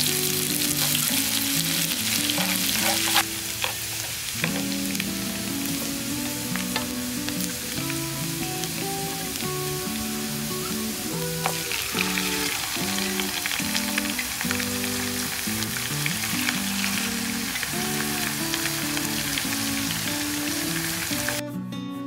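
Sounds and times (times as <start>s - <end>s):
garlic sizzling in hot oil: 0.0s - 21.4s
background music: 0.0s - 22.0s.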